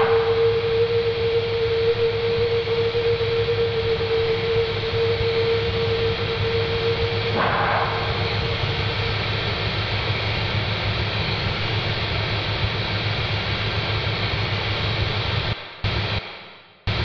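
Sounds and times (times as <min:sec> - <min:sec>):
low steady hum: 0:00.0 - 0:17.0
static-like hiss: 0:00.0 - 0:17.0.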